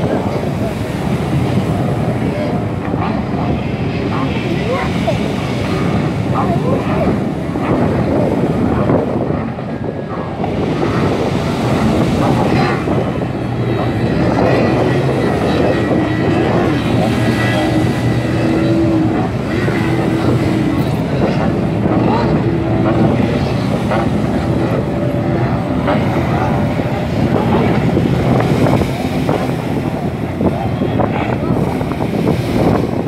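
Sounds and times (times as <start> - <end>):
powerboat engines droning: 0.0 - 33.0
wind on microphone: 0.0 - 33.0.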